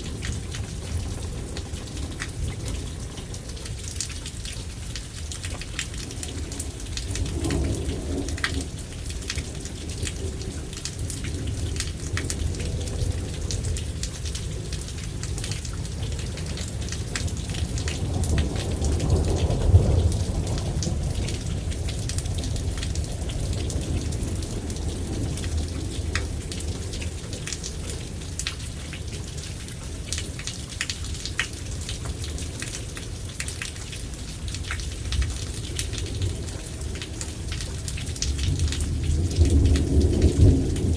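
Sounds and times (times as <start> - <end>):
thunder rumbling: 0.0 - 28.9, 34.0 - 40.9
rain pattering: 0.0 - 40.9.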